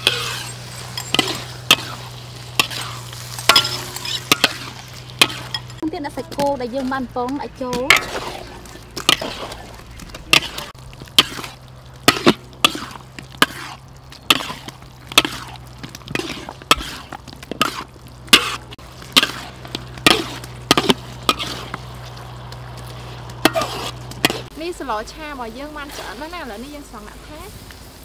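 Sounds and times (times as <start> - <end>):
metal spatula scraping a wok: 0.0 - 5.8, 7.9 - 24.6, 25.7 - 27.2.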